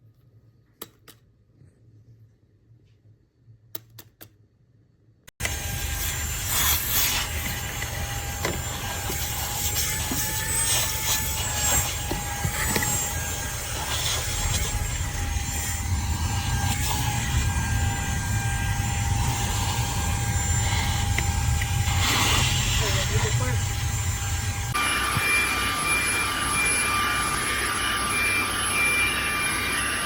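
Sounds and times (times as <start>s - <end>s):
handheld vacuum running: 5.4s - 30.0s.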